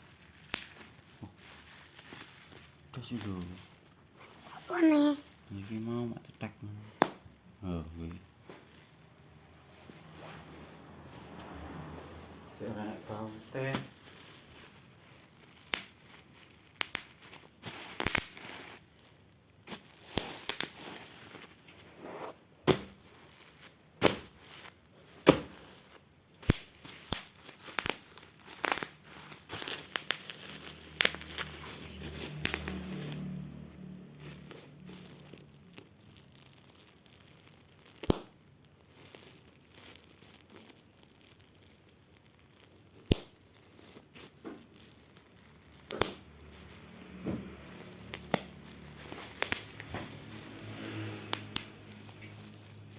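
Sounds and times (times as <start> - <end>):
plastic and cardboard crinkling: 0.0 - 52.9.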